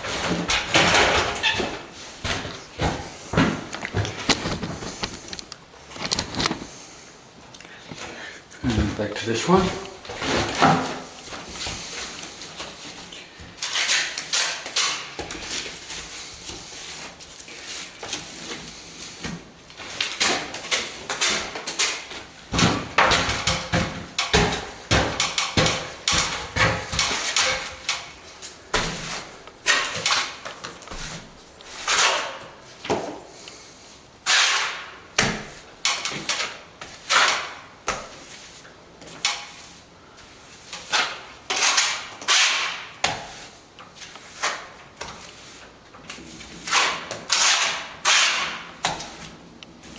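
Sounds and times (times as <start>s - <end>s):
plastering trowel scraping wall: 0.0s - 5.3s, 8.8s - 49.9s.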